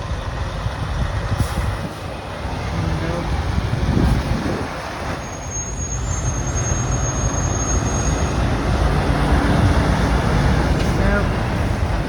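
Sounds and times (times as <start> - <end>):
heavy road traffic rumble: 0.0 - 12.0.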